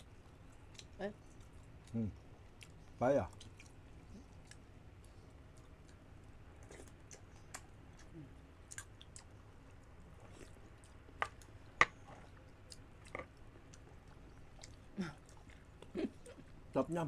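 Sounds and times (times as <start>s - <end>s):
people chewing: 0.0s - 16.6s.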